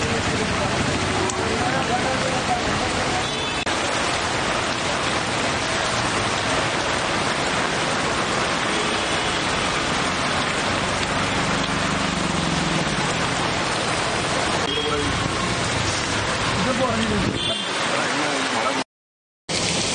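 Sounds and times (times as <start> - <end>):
heavy rain pouring: 0.0 - 18.8, 19.5 - 19.9.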